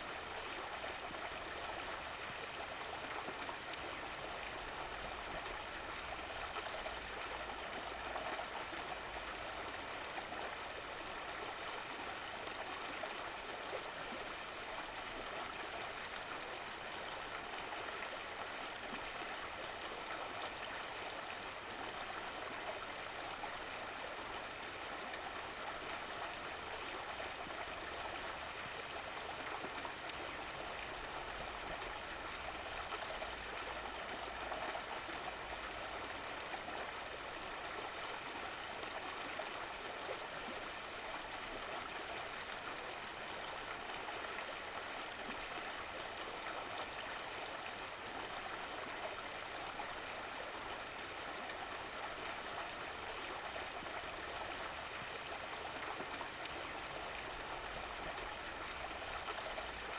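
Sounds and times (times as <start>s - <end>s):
stream flowing and trickling: 0.0s - 59.9s.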